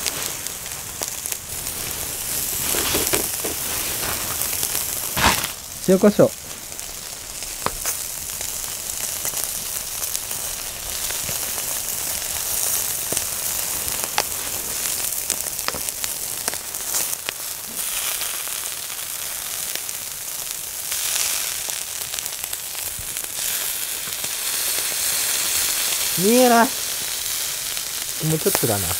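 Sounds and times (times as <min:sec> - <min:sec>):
chicken skin sizzling on a grill: 0:00.0 - 0:28.9
small pops and crackles: 0:00.0 - 0:28.9.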